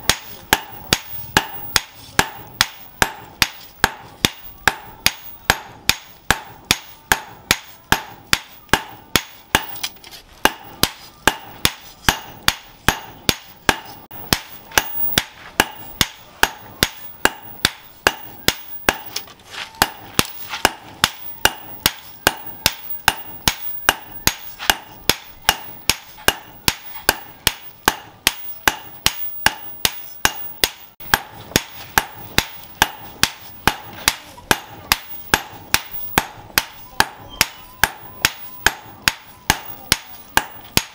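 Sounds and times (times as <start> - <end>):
hammers striking metal on anvil: 0.0 - 40.9.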